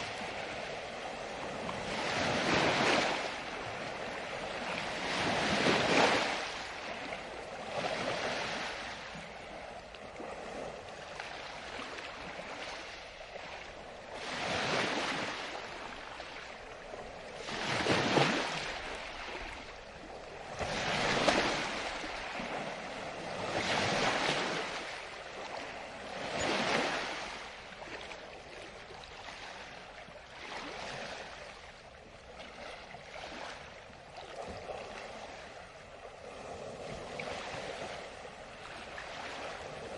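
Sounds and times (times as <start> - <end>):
water waves washing in: 0.0 - 39.9.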